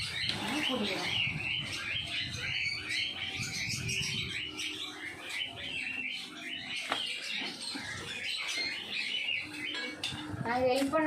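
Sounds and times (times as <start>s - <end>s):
lovebirds chattering and chirping: 0.0s - 11.0s.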